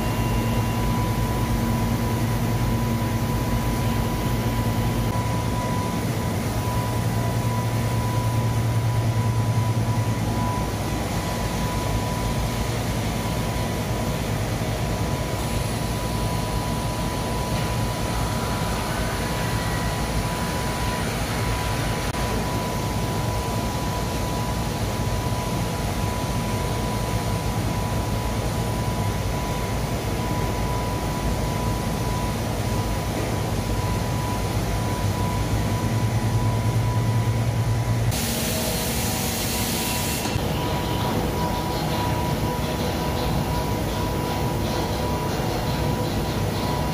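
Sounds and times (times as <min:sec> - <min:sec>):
washing machine hum: 0:00.0 - 0:46.9.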